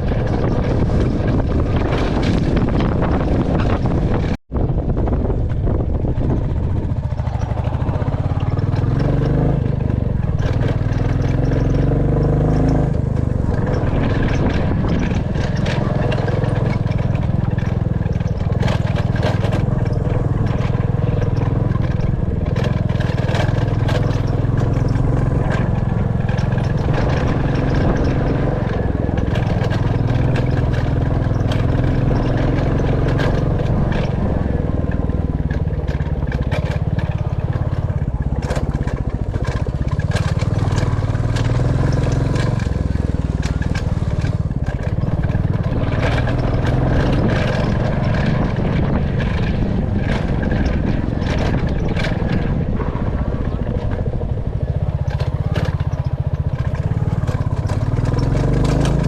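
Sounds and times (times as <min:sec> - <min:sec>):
motorcycle engine revving: 0:00.0 - 0:59.0
short rattles and knocks: 0:05.4 - 0:59.0.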